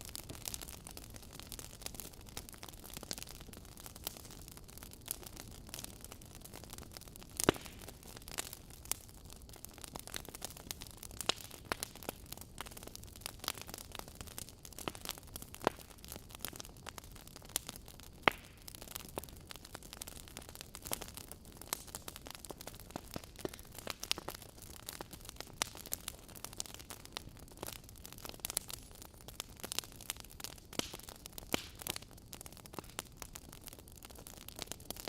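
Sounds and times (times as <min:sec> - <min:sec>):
wood fire pops and snaps: 0:00.1 - 0:35.0.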